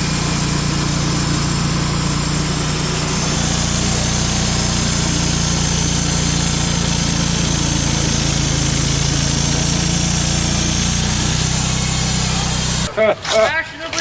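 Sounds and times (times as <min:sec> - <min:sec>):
small gas engine running: 0:00.0 - 0:14.0.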